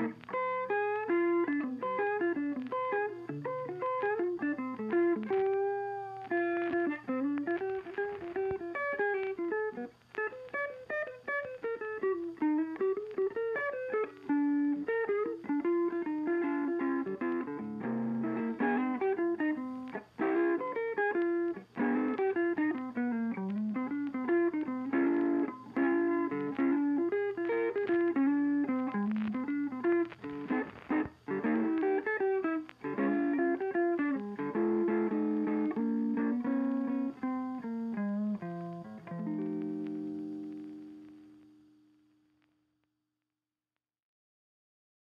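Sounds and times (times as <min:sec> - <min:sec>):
plucked guitar melody: 0:00.0 - 0:42.4.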